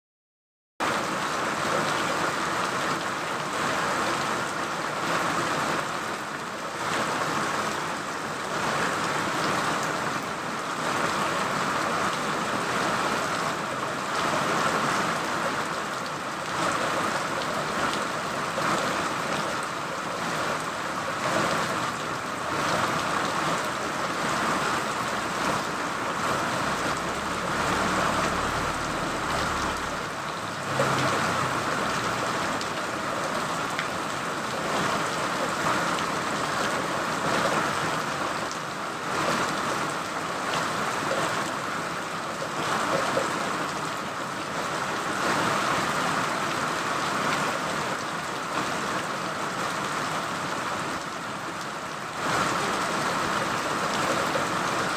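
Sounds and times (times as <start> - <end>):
rain pattering: 0.8 - 54.9.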